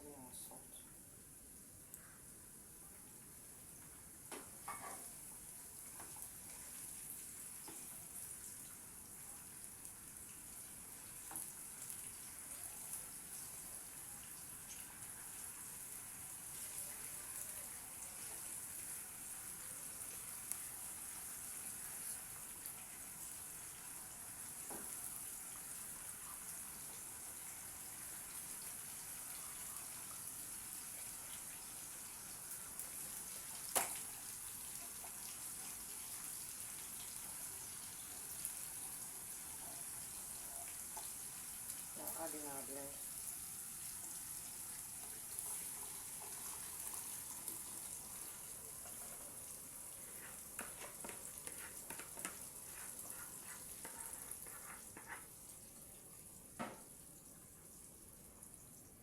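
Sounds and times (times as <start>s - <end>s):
onion sizzling in oil: 1.5s - 59.0s.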